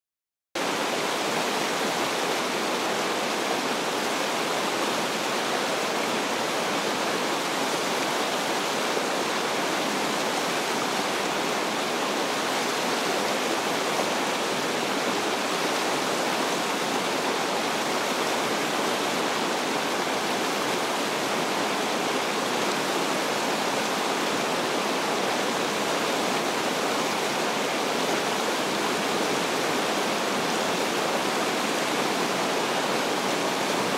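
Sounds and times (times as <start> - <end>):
river water rushing underwater: 0.6 - 33.9.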